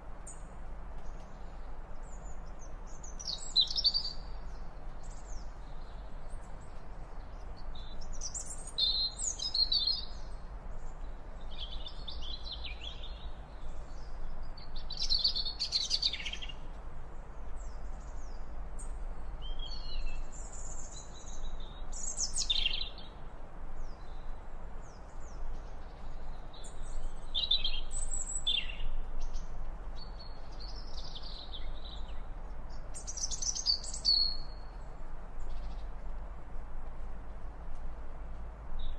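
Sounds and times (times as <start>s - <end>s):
low background hiss: 0.0s - 38.9s.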